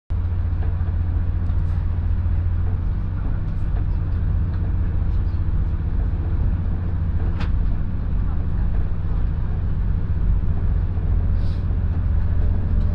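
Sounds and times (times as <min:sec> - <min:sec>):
train rumble inside carriage: 0:00.1 - 0:12.9.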